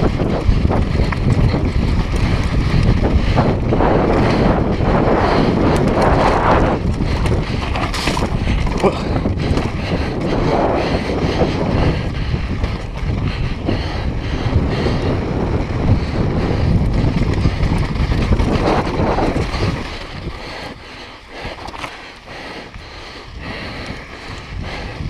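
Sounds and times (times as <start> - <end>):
mountain bike rattling over rocks: 0.0 - 22.8
tyres on loose dirt: 0.0 - 25.0
wind rushing over microphone: 0.0 - 25.0.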